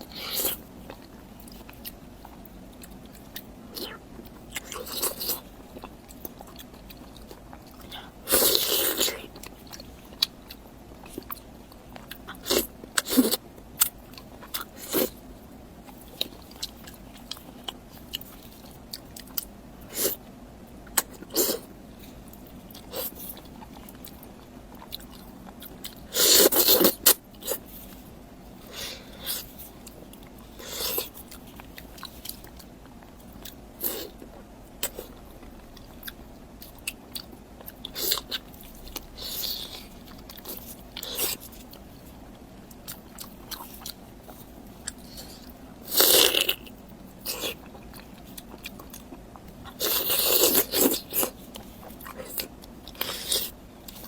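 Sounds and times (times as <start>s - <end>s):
chewing and biting noises: 0.0s - 54.0s.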